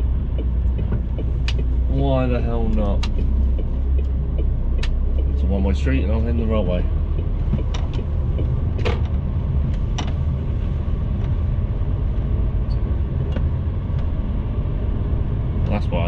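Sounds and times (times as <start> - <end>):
road noise: 0.0 - 16.0
truck diesel engine rumble: 0.0 - 16.0.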